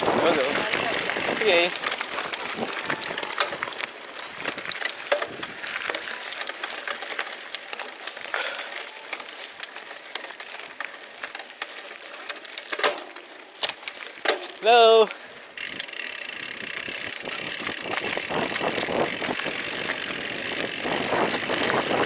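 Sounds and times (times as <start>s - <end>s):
bike rattling clicks: 0.0s - 22.0s
tyres crunching on loose dirt: 0.0s - 22.0s.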